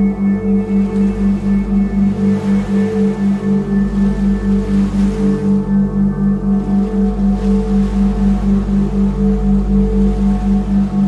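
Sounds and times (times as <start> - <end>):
pulsing low drone tone: 0.0 - 11.0
steady higher tones: 0.0 - 11.0.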